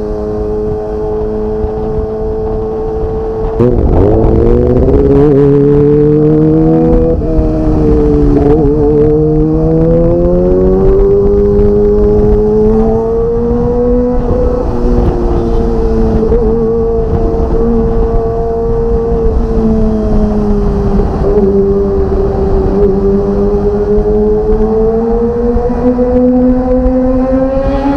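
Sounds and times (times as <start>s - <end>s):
low wind rumble: 0.0s - 27.9s
motorcycle engine revving high: 0.0s - 27.9s.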